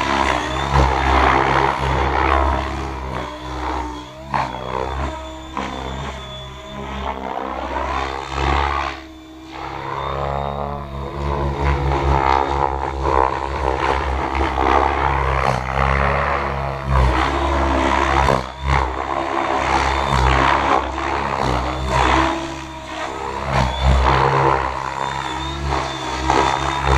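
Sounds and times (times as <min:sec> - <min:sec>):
helicopter rotor buzz: 0:00.0 - 0:26.9
rotor and motor whine: 0:00.0 - 0:26.9.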